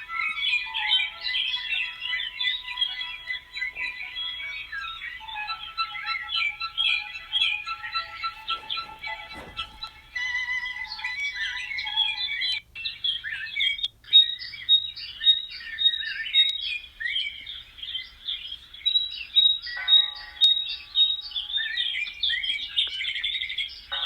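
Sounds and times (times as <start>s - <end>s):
chorus of small birds chirping: 0.0s - 24.0s.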